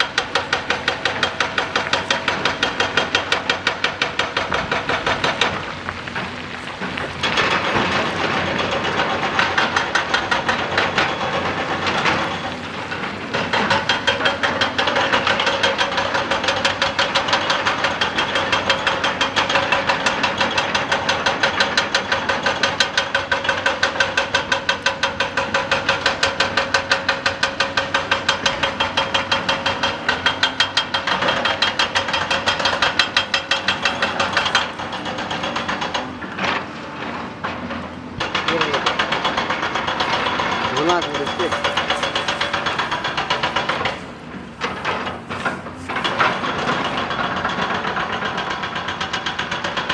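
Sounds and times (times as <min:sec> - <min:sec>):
excavator engine and hydraulics: 0:00.0 - 0:49.9
hydraulic breaker hammering rock: 0:00.0 - 0:49.9.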